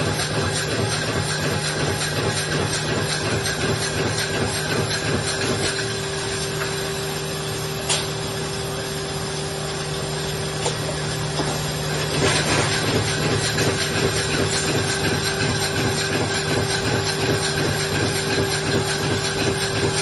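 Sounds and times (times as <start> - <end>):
printing press humming: 0.0 - 20.0.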